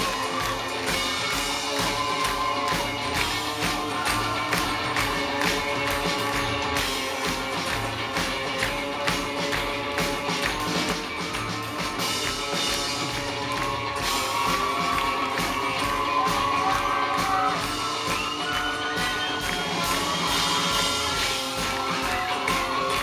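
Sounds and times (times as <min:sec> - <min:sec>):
live rock band music: 0:00.0 - 0:23.0.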